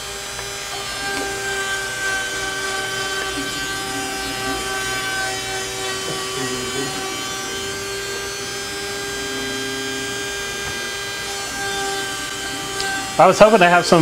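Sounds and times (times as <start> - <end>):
low tones shifting in pitch: 0.0 - 14.0
router spindle whine: 0.0 - 14.0.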